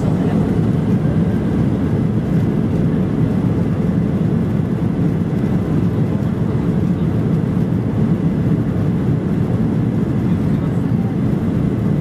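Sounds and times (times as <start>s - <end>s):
airflow in cabin: 0.0s - 12.0s
jet engines rumbling: 0.0s - 12.0s.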